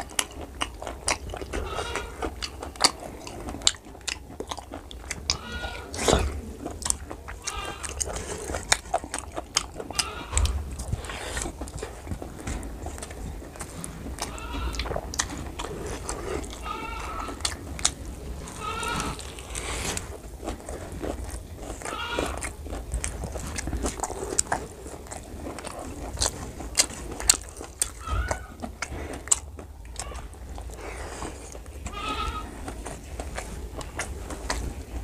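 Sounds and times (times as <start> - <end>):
wet chewing and lip-smacking: 0.0 - 35.0.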